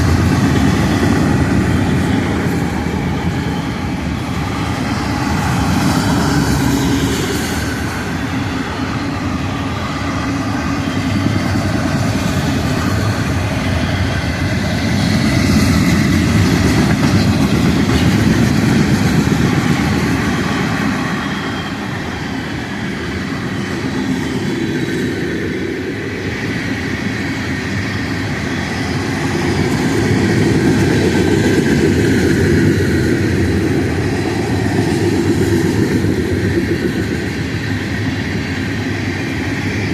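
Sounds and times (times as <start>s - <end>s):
freight train wheels rumbling on rail: 0.0s - 39.9s
train wheels clickety-clack: 0.0s - 39.9s.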